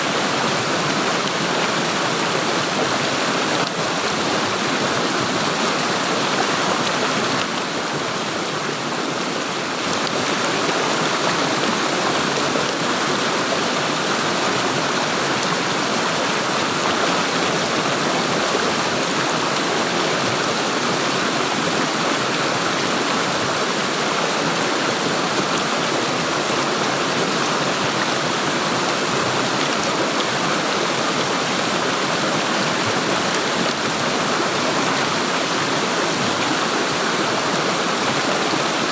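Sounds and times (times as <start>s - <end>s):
flowing water gurgling: 0.0s - 38.9s.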